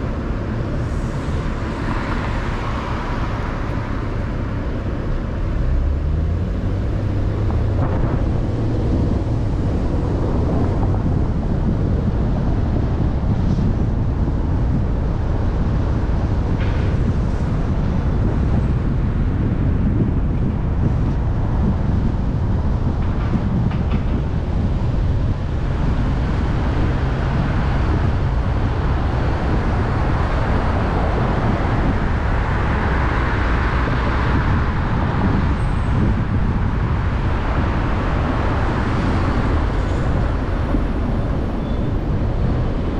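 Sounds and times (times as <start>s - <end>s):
wind noise: 0.0s - 42.9s.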